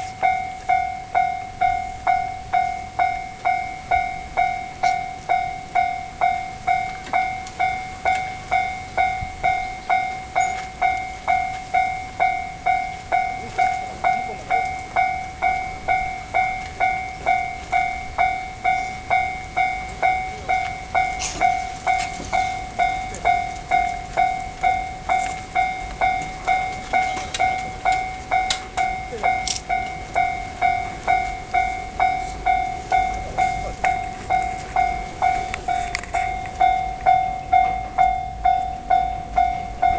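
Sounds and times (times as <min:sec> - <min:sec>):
level crossing bell clanging: 0:00.0 - 0:39.9.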